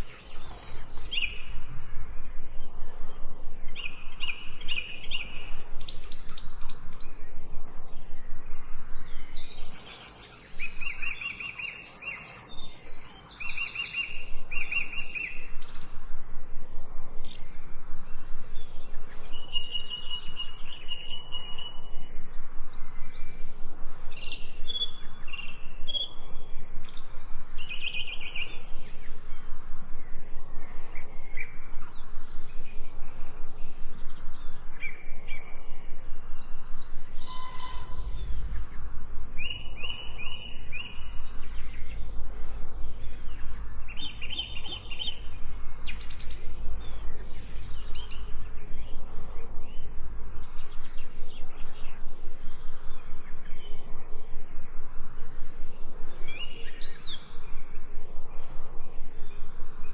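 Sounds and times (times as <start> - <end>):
forest birds chirping and singing: 0.0 - 59.9
outdoor background: 0.0 - 59.9.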